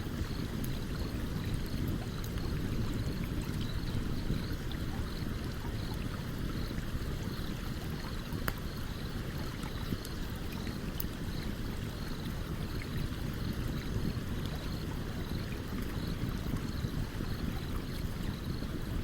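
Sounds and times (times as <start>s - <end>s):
stream running: 0.0s - 19.0s.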